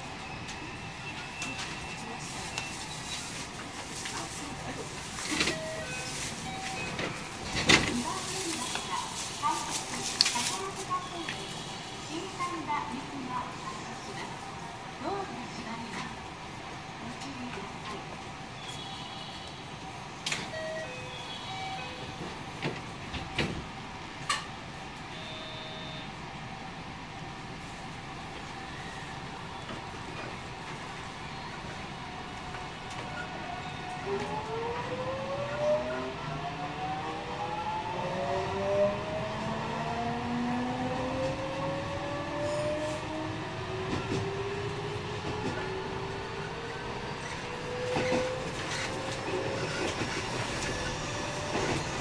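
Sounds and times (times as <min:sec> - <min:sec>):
train interior hum: 0:00.0 - 0:52.0.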